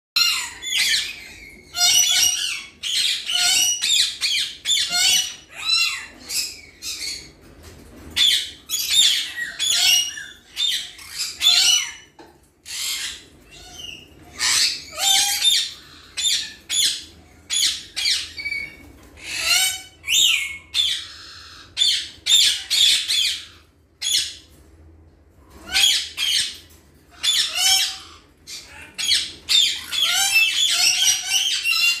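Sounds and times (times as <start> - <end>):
parrots squawking: 0.2 - 24.5, 25.5 - 32.0.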